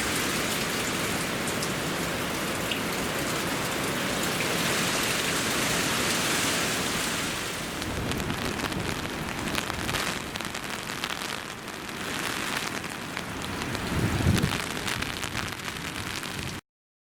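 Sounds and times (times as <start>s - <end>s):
heavy rain falling: 0.0s - 16.6s.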